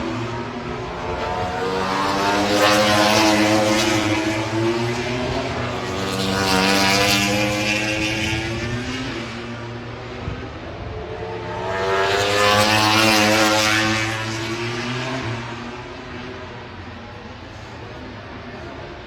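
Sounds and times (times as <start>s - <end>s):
racing motorcycles passing: 0.0s - 18.1s.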